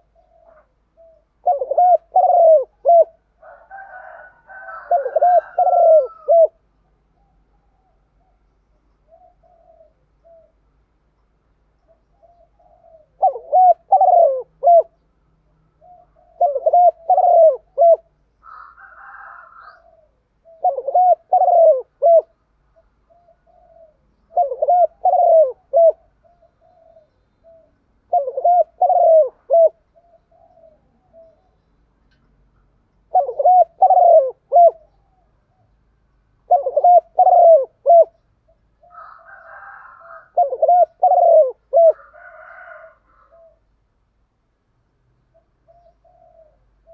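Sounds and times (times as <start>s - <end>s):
dove cooing: 0.0s - 10.8s, 11.8s - 15.0s, 15.7s - 31.6s, 33.0s - 35.8s, 36.4s - 43.7s, 45.3s - 46.9s.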